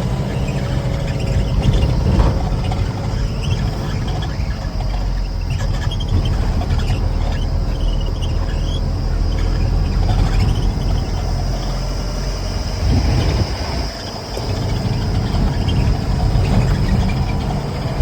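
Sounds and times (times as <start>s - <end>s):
insects chirring: 0.0s - 18.0s
machine engine rumbling: 0.0s - 18.0s.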